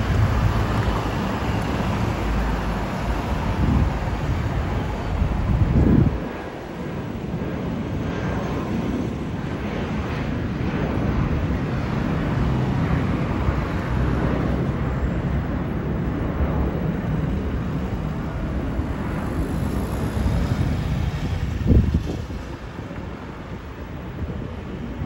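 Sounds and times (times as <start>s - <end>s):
jet engines rumbling overhead: 0.0s - 25.0s.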